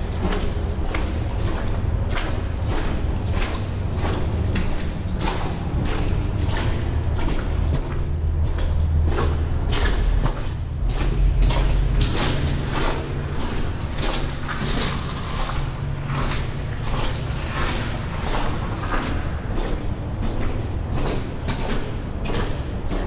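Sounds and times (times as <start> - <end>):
boots sloshing through water: 0.0 - 23.0
steady low rumble: 0.0 - 23.0.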